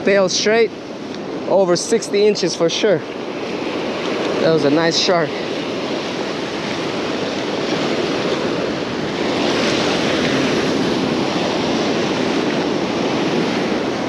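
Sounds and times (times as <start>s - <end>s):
ocean surf washing onto beach: 0.0s - 14.0s
wind on microphone: 0.0s - 14.0s.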